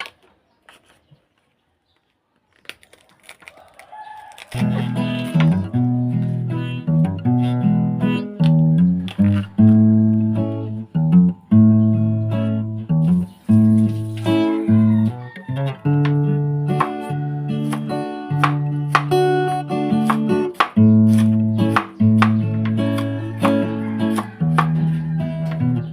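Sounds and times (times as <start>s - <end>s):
guitar music: 4.5s - 25.9s.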